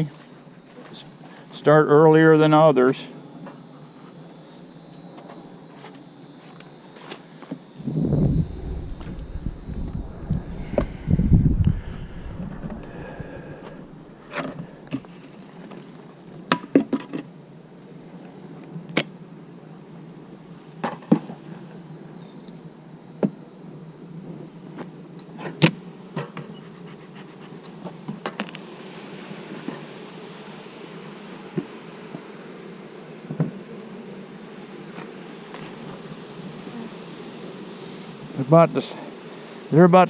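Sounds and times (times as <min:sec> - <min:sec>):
bees buzzing around a hive: 0:00.0 - 0:40.0.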